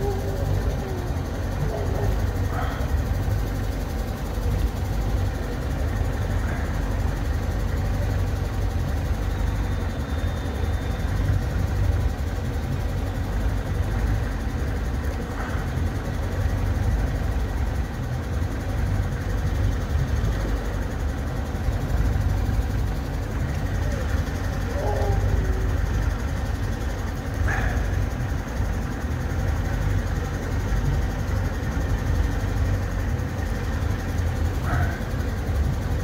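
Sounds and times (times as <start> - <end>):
boat engine low rumble: 0.0 - 36.0.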